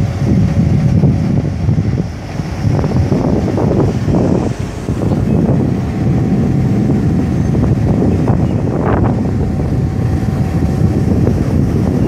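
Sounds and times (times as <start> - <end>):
train coaches rumbling and clanking: 0.0 - 12.0
wind on microphone: 0.0 - 12.0.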